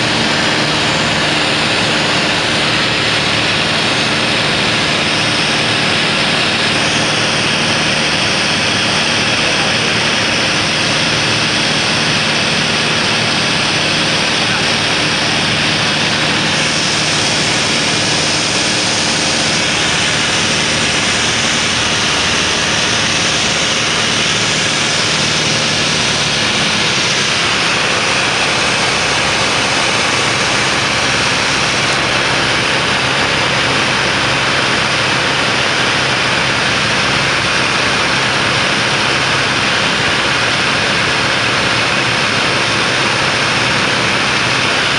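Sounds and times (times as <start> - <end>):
cabin airflow rush: 0.0 - 44.9
low aircraft engine hum: 0.0 - 44.9.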